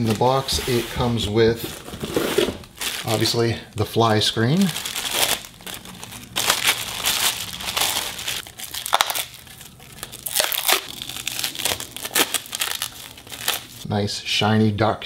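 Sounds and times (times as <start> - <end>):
plastic wrapping rustling: 0.0 - 13.8.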